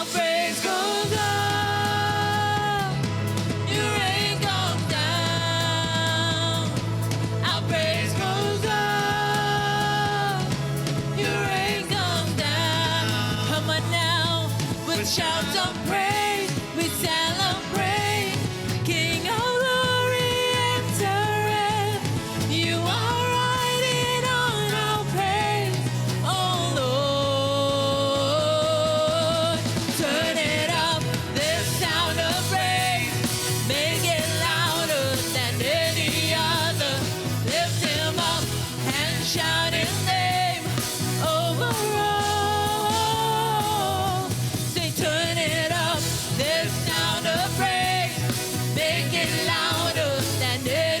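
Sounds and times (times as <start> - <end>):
band playing worship song: 0.0 - 51.0
person singing: 0.0 - 51.0
steady bass line: 0.0 - 51.0.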